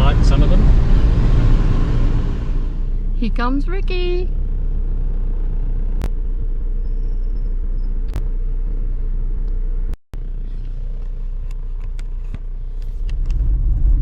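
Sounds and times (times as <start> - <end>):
car rumbling on the move: 0.0 - 14.0.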